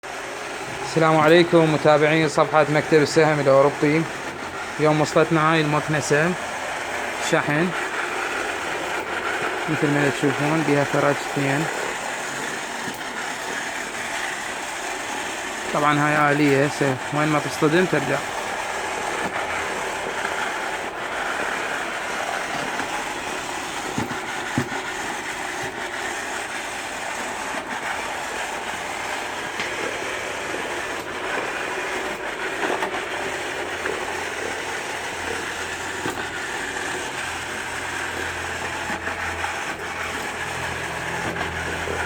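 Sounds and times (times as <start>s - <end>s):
robot vacuum cleaner whirring: 0.0s - 42.0s.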